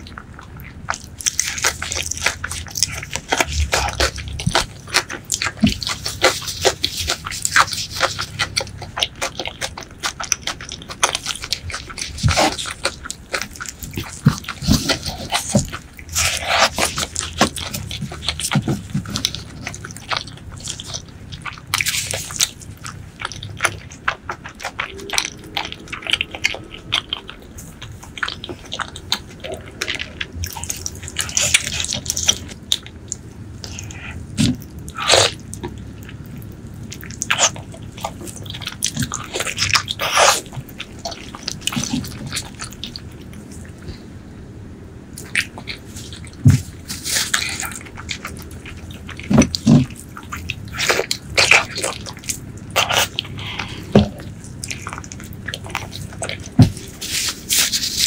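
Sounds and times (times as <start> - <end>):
lip-smacking: 0.0 - 44.2, 45.1 - 58.0
wet chewing: 0.0 - 58.0.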